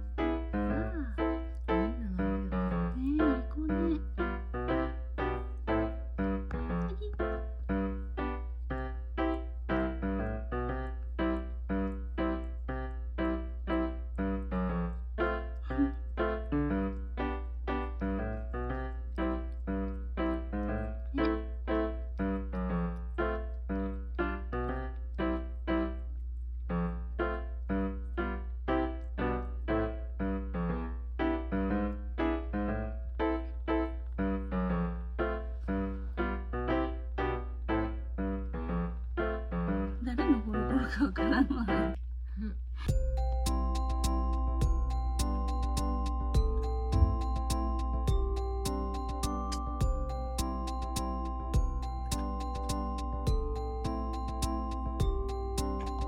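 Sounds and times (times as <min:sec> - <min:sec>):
brisk piano tune: 0:00.0 - 0:26.1, 0:26.7 - 0:42.0, 0:42.9 - 0:56.0.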